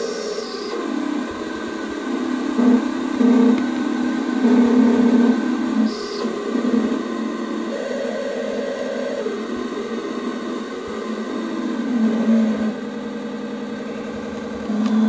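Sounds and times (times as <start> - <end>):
square-wave synth drone: 0.0 - 15.0.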